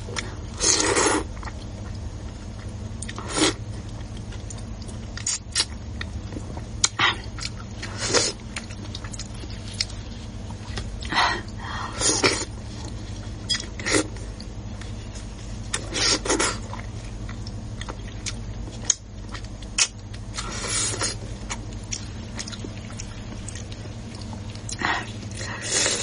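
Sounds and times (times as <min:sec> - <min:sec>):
steady low hum: 0:00.0 - 0:26.0
chewing and biting food: 0:00.2 - 0:26.0.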